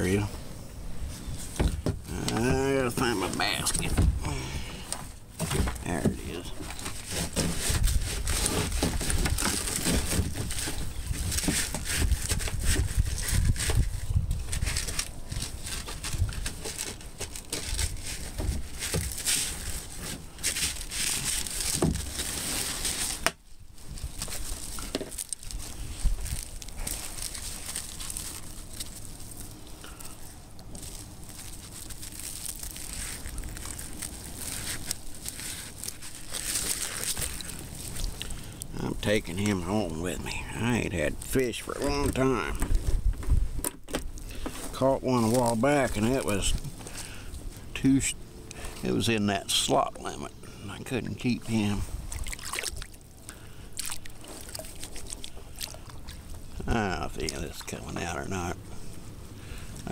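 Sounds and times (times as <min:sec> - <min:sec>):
crinkling rustling handling noise: 0:00.0 - 0:59.9.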